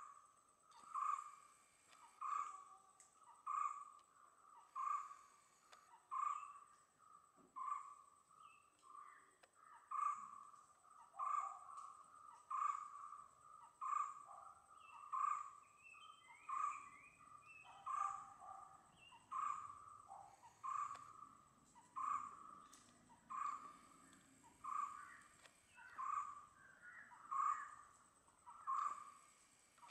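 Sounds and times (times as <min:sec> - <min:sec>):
other birds chirping: 0:00.0 - 0:29.9.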